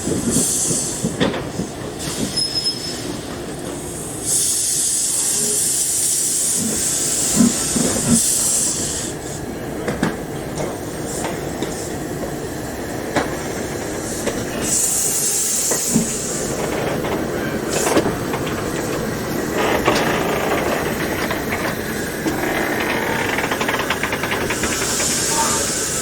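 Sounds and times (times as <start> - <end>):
steam train rumbling: 0.0 - 26.0
steam hissing: 0.1 - 9.6, 10.8 - 26.0.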